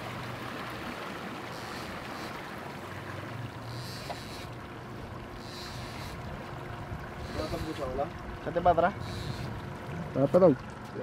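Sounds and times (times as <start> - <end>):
outboard motors humming: 0.0 - 11.0
water rushing along hull: 0.0 - 11.0.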